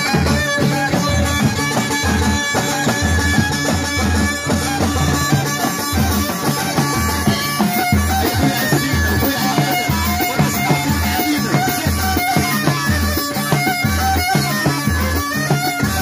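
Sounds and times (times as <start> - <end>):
bowed violin melody: 0.0 - 16.0
frame drums and drum kit beat: 0.0 - 16.0.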